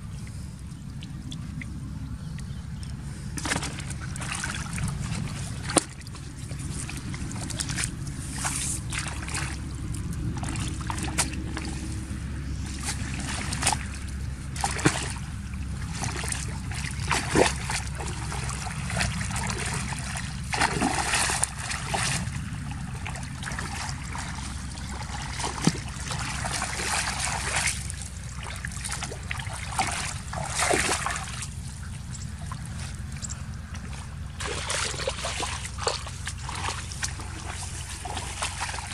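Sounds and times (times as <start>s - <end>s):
low rumble: 0.0s - 38.9s
muddy water splashing: 0.0s - 38.9s.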